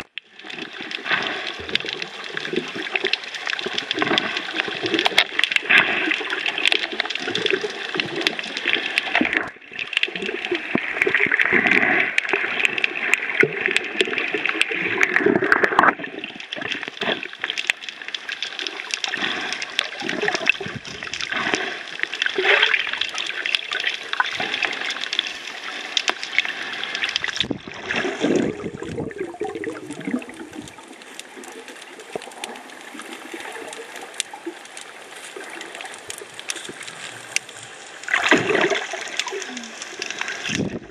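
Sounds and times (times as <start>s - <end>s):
water gurgling underwater: 0.0s - 40.9s.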